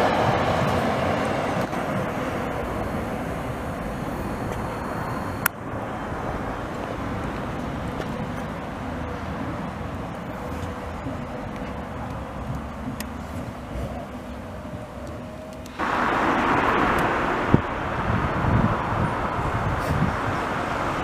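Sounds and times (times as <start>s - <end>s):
tram rumbling along track: 0.0s - 21.0s.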